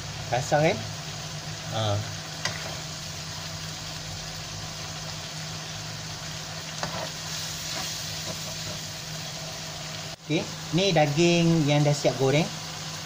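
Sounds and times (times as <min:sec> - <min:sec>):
paste sizzling in a wok: 0:00.0 - 0:13.0.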